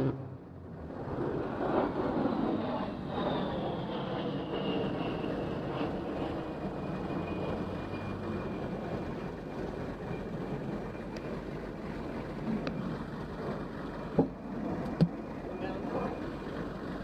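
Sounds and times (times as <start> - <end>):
high turbine whine: 0.0 - 17.0
jet aircraft flying past: 0.0 - 17.0.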